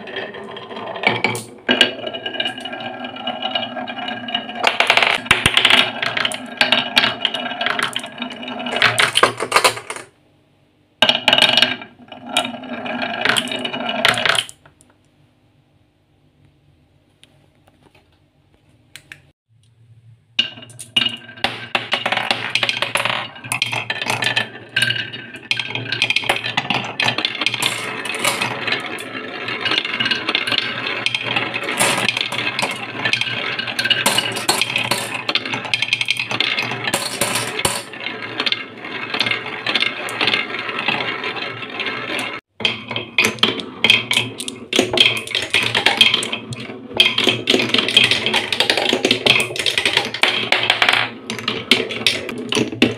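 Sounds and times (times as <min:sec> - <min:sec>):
marbles rattling down wooden run: 0:00.0 - 0:10.1, 0:11.3 - 0:14.6, 0:20.7 - 0:52.9.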